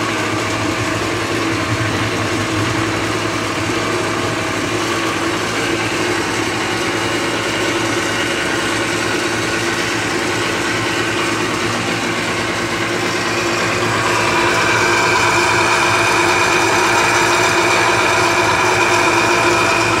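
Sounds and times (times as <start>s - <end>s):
blender motor running: 0.0s - 20.0s.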